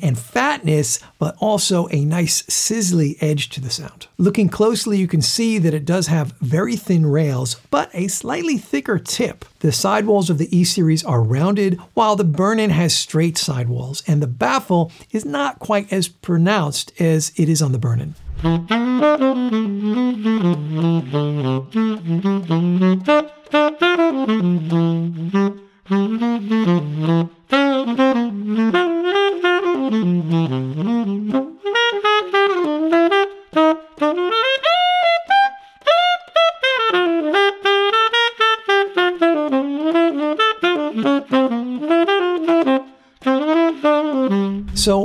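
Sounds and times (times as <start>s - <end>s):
tenor saxophone jazz line: 0.0s - 16.1s, 16.8s - 45.0s.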